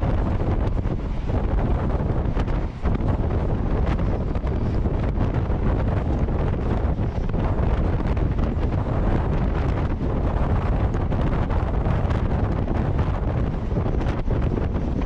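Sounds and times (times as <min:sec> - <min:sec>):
train rumbling along track: 0:00.0 - 0:15.0
wind buffeting microphone: 0:00.0 - 0:15.0.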